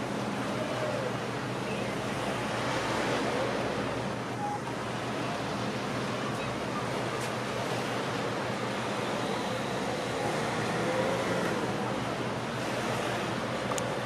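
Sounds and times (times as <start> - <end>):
water: 0.0 - 14.0
wind: 0.0 - 14.0.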